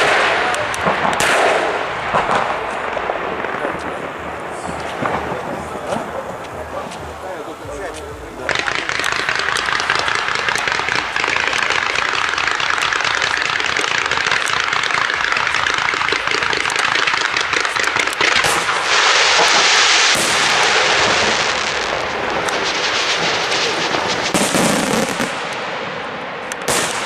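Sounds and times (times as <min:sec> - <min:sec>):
fireworks cracking: 0:00.0 - 0:27.0
fireworks hiss: 0:00.8 - 0:25.9.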